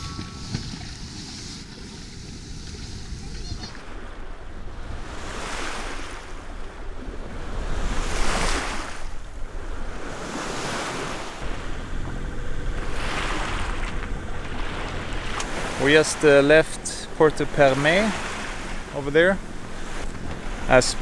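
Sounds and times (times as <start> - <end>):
water rushing along hull: 0.0 - 21.0
wind rumble on microphone: 0.0 - 21.0.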